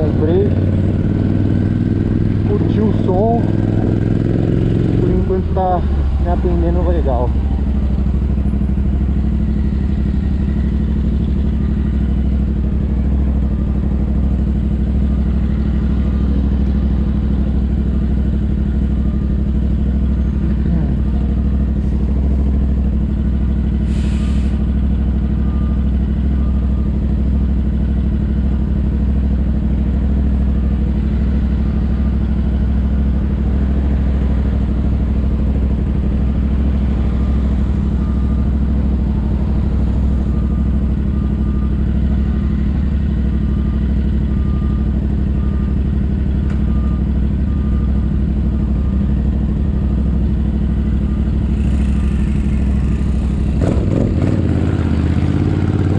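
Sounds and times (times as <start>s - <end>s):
motorcycle engine running: 0.0s - 23.9s, 24.6s - 55.9s.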